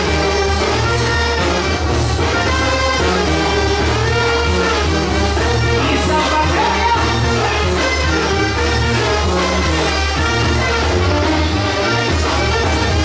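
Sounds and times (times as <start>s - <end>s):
brass band music over speakers: 0.0s - 13.0s.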